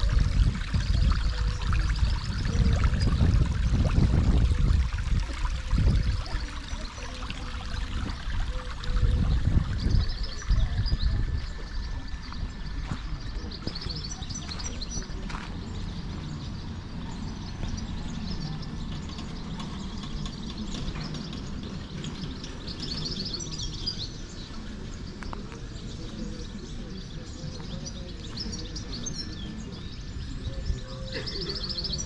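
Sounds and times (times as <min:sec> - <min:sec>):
low background rumble: 0:00.0 - 0:32.0
small birds chirping: 0:00.0 - 0:32.0.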